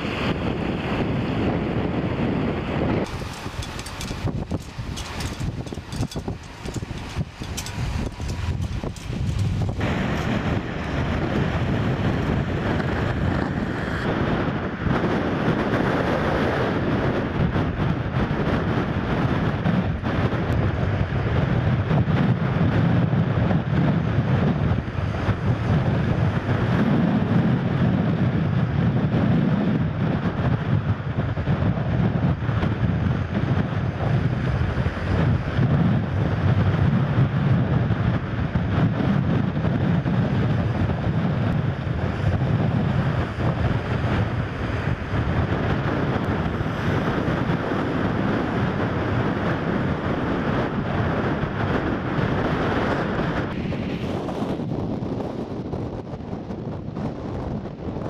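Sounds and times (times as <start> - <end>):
rough sea noise: 0.0 - 58.0
wind buffeting microphone: 0.0 - 58.0.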